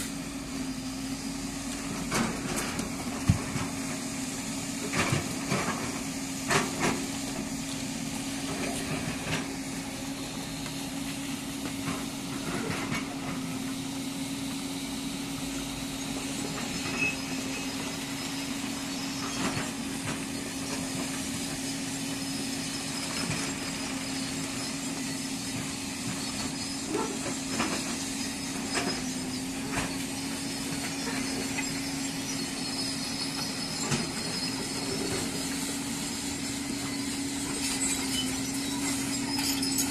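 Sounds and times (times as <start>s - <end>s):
excavator engine humming: 0.0s - 39.9s.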